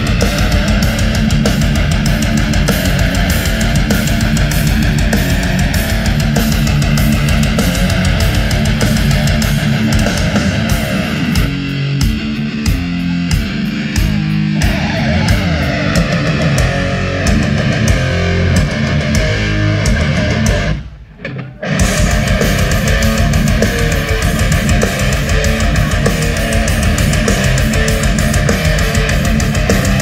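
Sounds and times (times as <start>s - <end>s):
fast driving drumming: 0.0s - 20.9s, 21.6s - 30.0s
death metal band playing: 0.0s - 30.0s.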